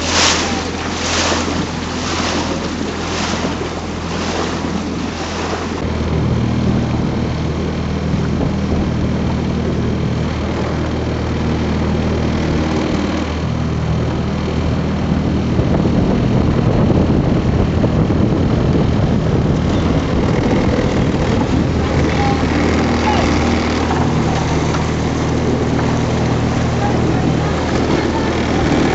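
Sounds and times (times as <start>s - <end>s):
boat engine running: 0.0s - 28.9s.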